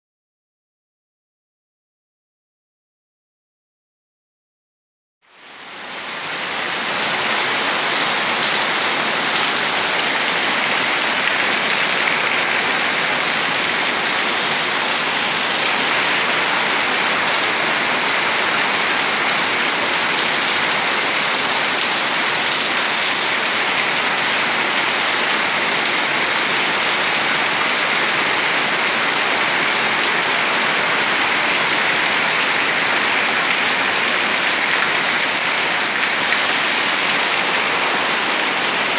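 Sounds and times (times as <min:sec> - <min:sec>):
heavy rain pouring: 0:05.3 - 0:38.9.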